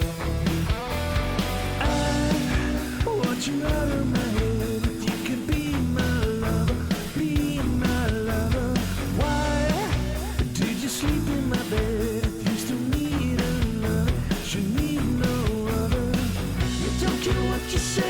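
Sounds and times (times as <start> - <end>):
drums and bass: 0.0 - 18.0
electric guitar: 0.0 - 18.0
person singing: 1.8 - 18.0.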